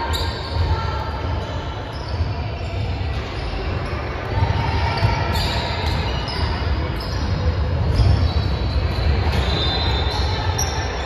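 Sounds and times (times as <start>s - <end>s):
low echoing gym rumble: 0.0s - 11.0s.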